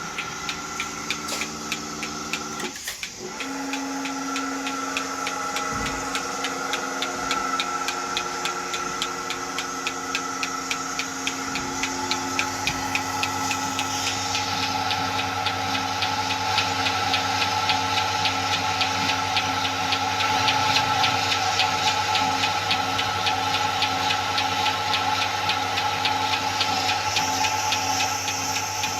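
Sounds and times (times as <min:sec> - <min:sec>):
milking machine motor hum: 0:00.0 - 0:28.9
pulsator clicking: 0:00.0 - 0:28.9.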